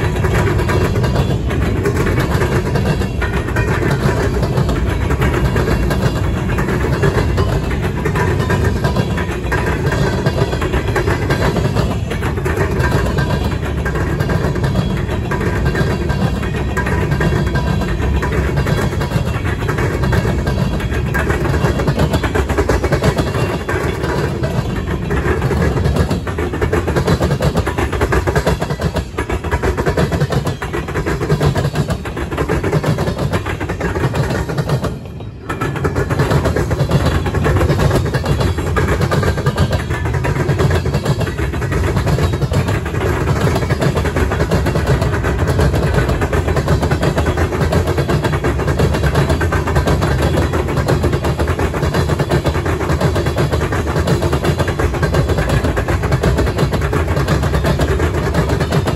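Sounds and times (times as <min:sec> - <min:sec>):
train wheels rumbling over rails: 0:00.0 - 0:58.9.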